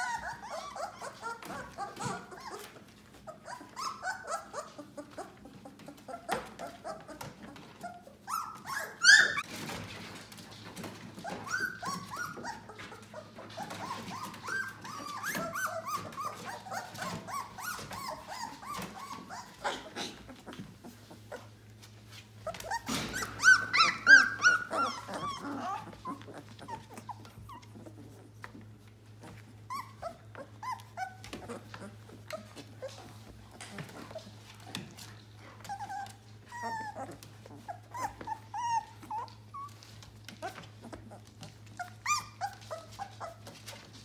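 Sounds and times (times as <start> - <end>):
puppies whimpering and yelping: 0.0 - 44.0.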